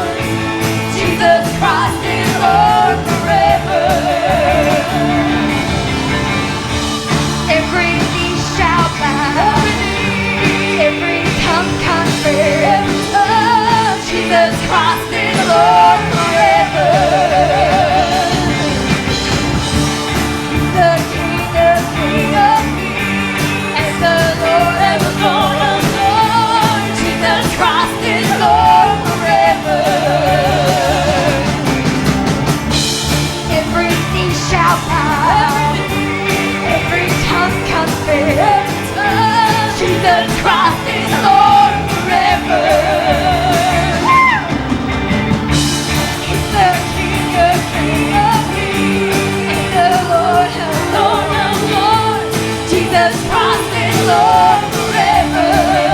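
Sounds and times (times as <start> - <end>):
band playing upbeat gospel song: 0.0 - 55.9
singing with heavy vibrato: 0.0 - 55.9.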